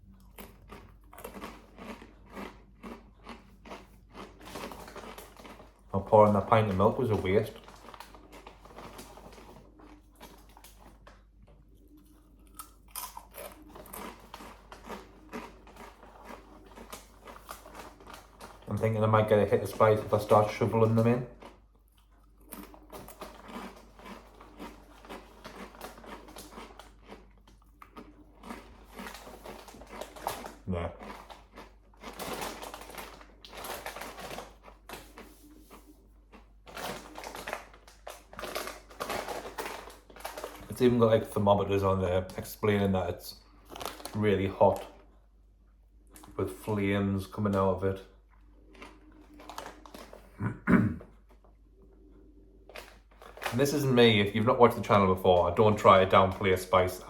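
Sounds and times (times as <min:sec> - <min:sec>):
person chewing crunchy chips: 0:00.0 - 0:57.0.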